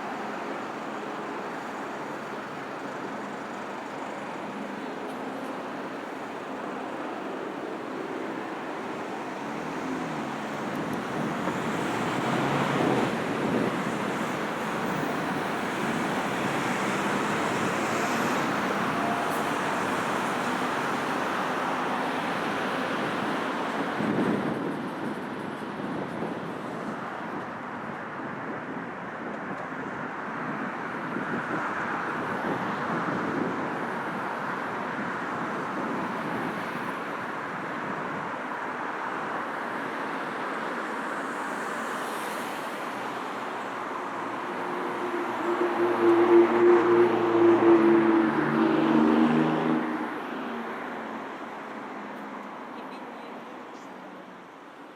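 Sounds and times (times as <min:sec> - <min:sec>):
heavy road traffic: 0:00.0 - 0:54.9.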